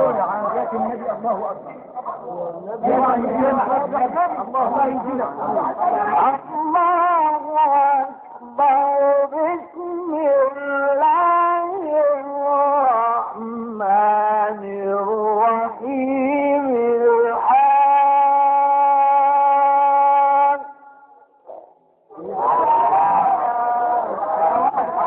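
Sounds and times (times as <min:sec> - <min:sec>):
man chanting recitation: 0:00.0 - 0:21.0.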